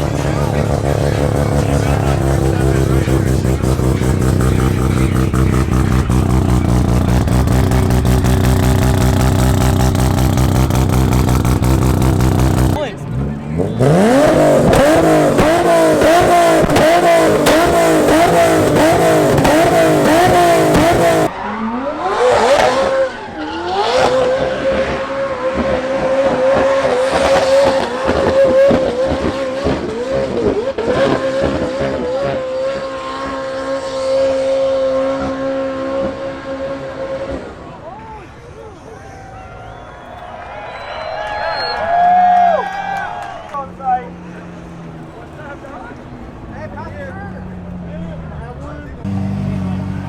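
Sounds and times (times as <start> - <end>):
car engine revving: 0.0 - 41.5, 42.7 - 50.0.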